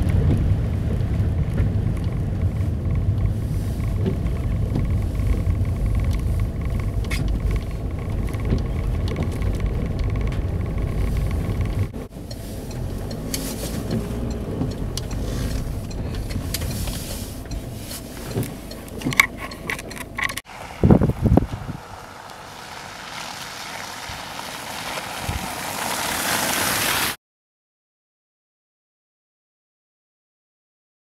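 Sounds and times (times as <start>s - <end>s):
car interior road rumble: 0.0s - 27.2s.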